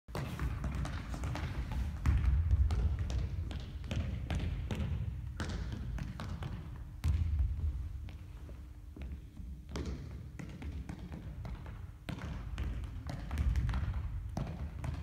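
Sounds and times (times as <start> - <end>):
ball bouncing on wooden floor: 0.1 - 15.0.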